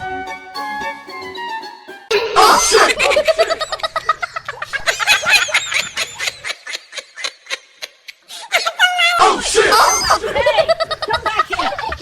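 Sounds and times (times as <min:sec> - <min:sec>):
person laughing hard: 0:02.1 - 0:12.0.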